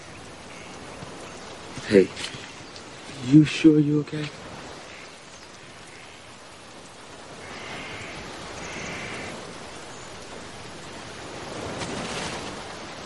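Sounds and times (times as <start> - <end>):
jungle ambience hiss: 0.0 - 13.0.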